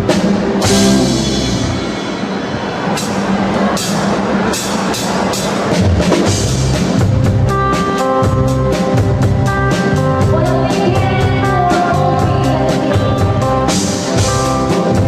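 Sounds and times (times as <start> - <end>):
band held chords: 0.0 - 15.0
drum and cymbal strokes: 0.0 - 15.0.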